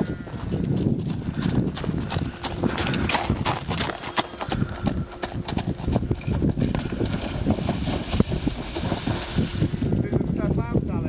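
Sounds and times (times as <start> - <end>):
horse hoofbeats on grass: 0.0 - 10.2.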